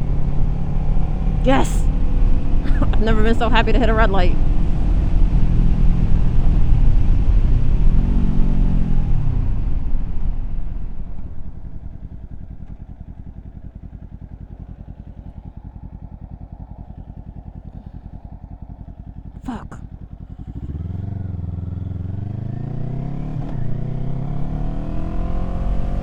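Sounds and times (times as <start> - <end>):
motorcycle engine slowing and idling: 0.0 - 26.0.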